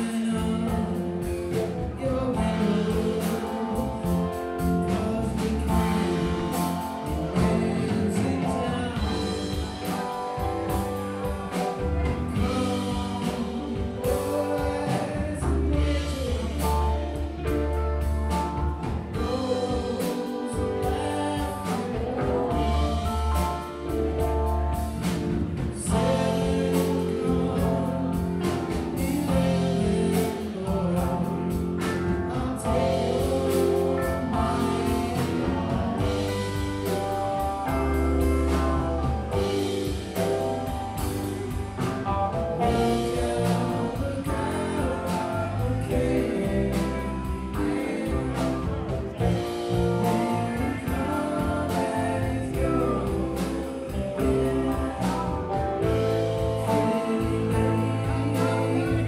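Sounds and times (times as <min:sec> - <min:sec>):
drum kit: 0:00.0 - 0:59.0
electric guitars: 0:00.0 - 0:59.0
keyboard: 0:00.0 - 0:59.0
person singing: 0:00.0 - 0:59.0.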